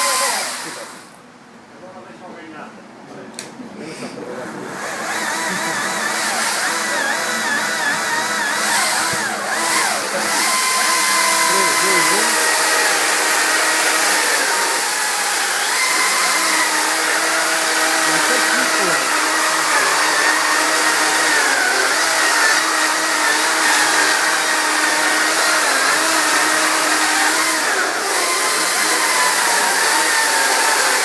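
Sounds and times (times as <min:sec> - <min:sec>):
electric chainsaw cutting: 0:00.0 - 0:01.2, 0:04.4 - 0:31.0.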